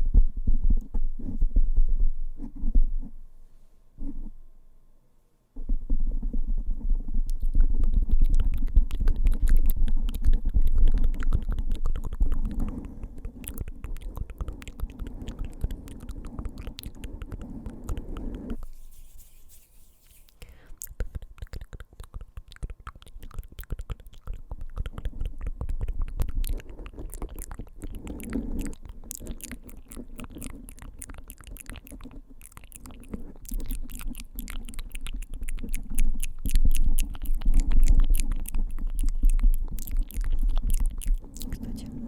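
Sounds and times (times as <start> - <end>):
fingertips tapping on microphone: 5.6 - 41.3.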